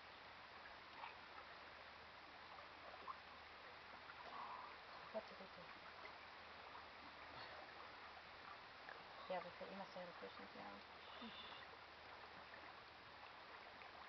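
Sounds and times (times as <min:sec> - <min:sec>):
lake water lapping: 0:00.0 - 0:14.0.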